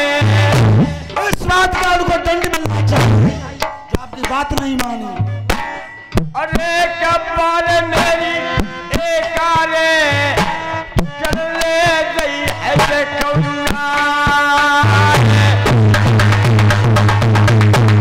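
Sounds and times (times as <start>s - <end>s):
drum strokes: 0.0s - 7.2s, 7.9s - 18.0s.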